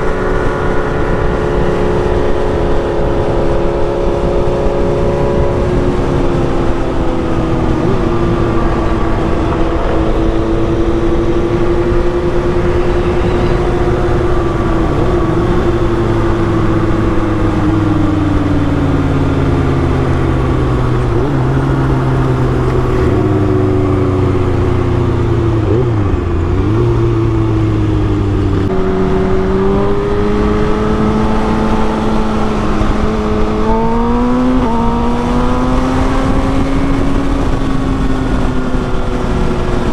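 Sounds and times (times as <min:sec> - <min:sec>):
motorcycle engine running: 0:00.0 - 0:39.9
wind noise rushing: 0:00.0 - 0:39.9.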